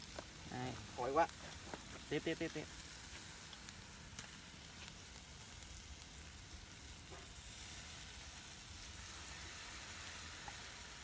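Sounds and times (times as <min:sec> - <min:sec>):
fish sizzling on charcoal: 0:00.0 - 0:11.0.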